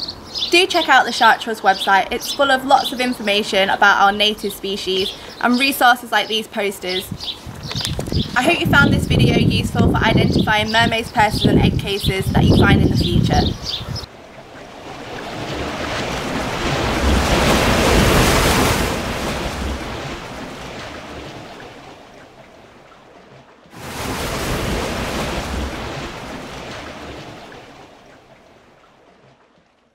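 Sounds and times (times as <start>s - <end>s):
ocean surf waves: 0.0s - 29.6s.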